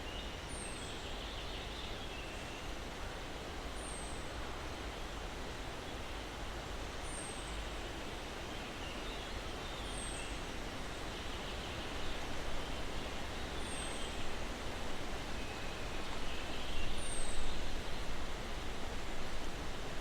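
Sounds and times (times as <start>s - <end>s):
wind through pine branches: 0.0s - 20.0s.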